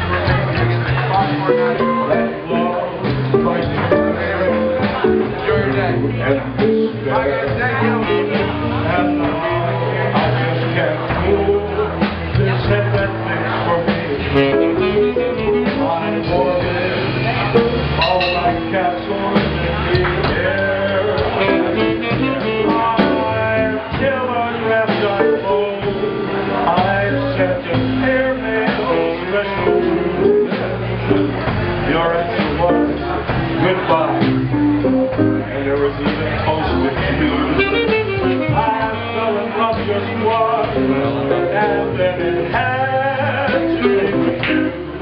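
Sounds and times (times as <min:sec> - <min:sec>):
bass line: 0:00.0 - 0:45.0
guitar: 0:00.0 - 0:45.0
live blues band playing: 0:00.0 - 0:45.0
man singing into a microphone: 0:00.0 - 0:45.0.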